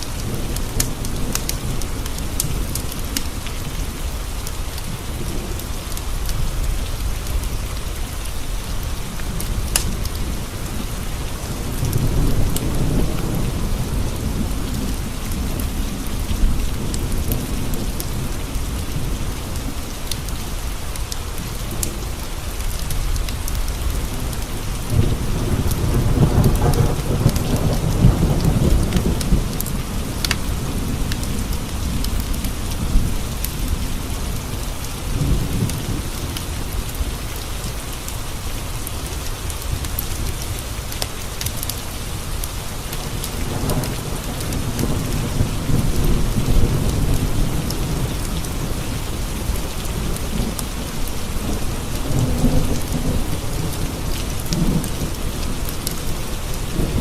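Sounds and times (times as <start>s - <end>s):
thunder rumbling: 0.0s - 20.6s, 22.9s - 37.6s, 43.0s - 57.0s
rain on window panes: 0.0s - 57.0s.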